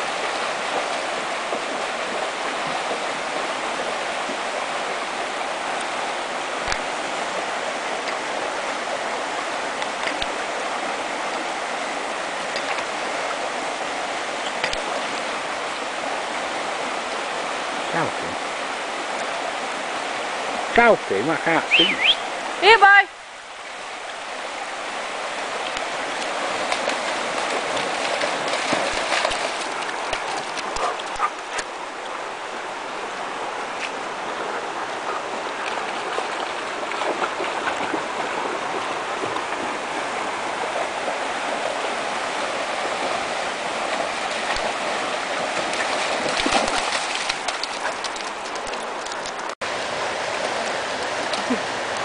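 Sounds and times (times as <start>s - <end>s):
river rushing over rocks: 0.0s - 52.0s.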